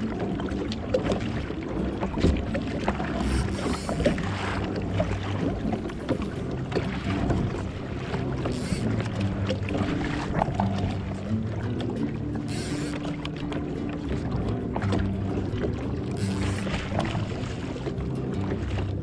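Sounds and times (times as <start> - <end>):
background music low notes: 0.0 - 19.0
water slapping against kayak hull: 0.0 - 19.0
wind: 0.0 - 19.0.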